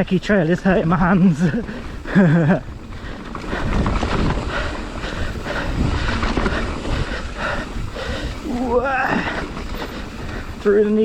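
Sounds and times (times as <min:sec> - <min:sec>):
bike tyres rumbling: 0:00.0 - 0:11.0
bike rattling over rocks: 0:00.2 - 0:11.0
wind buffeting microphone: 0:00.6 - 0:11.0.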